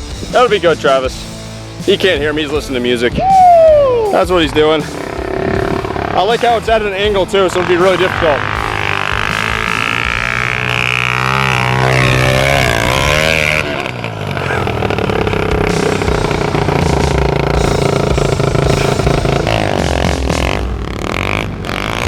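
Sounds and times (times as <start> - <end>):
pit bike engine revving: 0.0 - 22.0.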